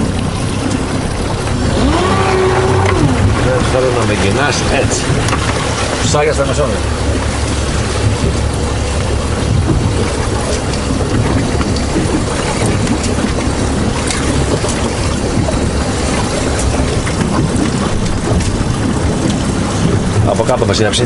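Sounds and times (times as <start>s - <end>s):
choppy water washing: 0.0s - 21.0s
wind buffeting microphone: 0.0s - 21.0s.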